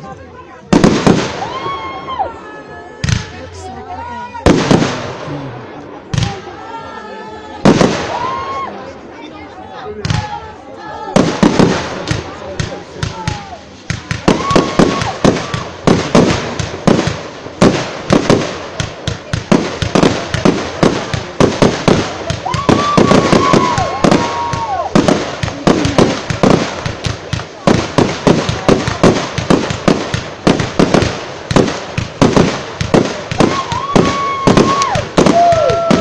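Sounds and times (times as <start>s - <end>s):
fireworks bangs and crackles: 0.0s - 9.2s, 9.9s - 36.0s.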